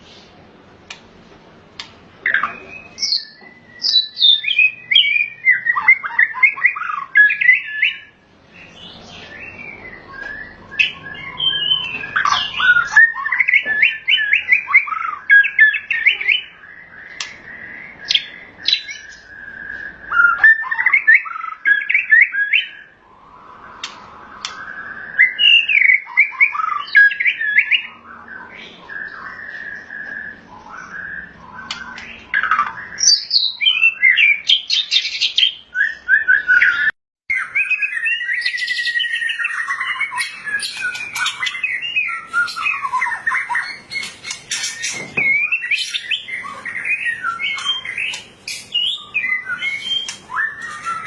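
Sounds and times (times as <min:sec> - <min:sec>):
songbird singing: 0:00.8 - 0:51.0.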